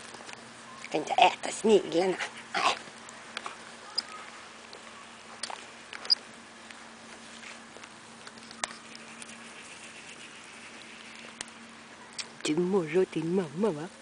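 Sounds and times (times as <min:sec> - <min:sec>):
faint steady hum: 0:00.0 - 0:14.0
puppies rustling through grass: 0:00.0 - 0:14.0.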